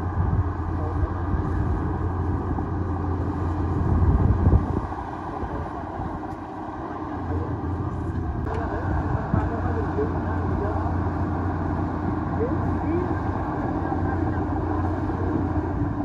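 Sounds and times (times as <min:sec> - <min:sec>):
bulldozer diesel engine: 0:00.0 - 0:16.0.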